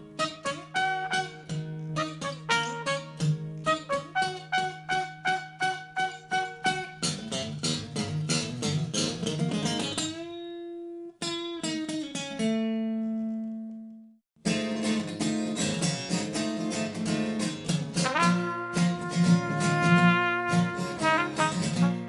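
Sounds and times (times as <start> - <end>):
acoustic guitar strumming: 0.0 - 13.4, 14.5 - 22.0.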